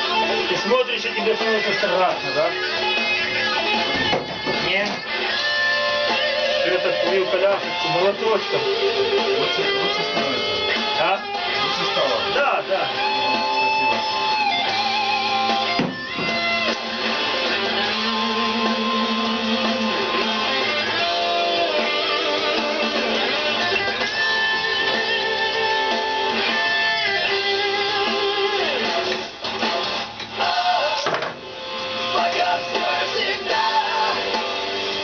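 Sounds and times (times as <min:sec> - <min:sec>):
rock instrumental with electric guitar: 0:00.0 - 0:35.0.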